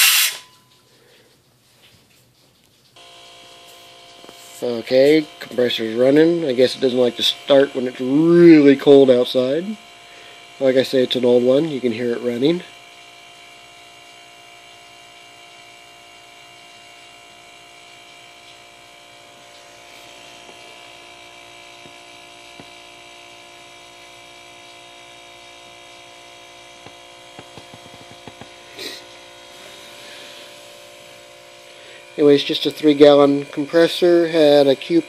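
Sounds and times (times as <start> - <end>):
compressor humming: 0.0 - 35.0.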